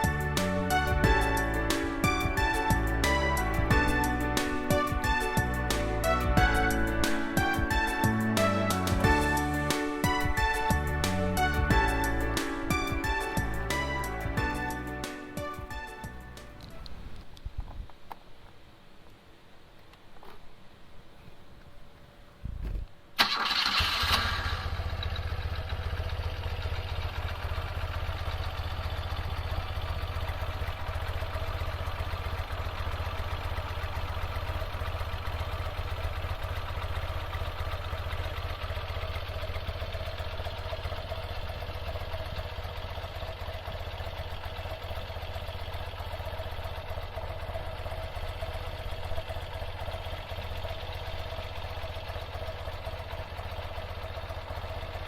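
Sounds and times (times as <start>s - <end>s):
motorcycle engine idling: 0.0s - 17.2s, 23.3s - 55.0s.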